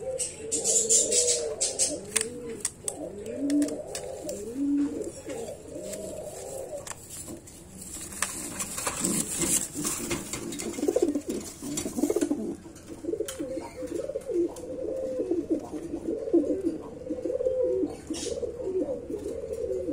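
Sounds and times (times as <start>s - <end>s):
pigeon cooing: 0.0s - 19.9s.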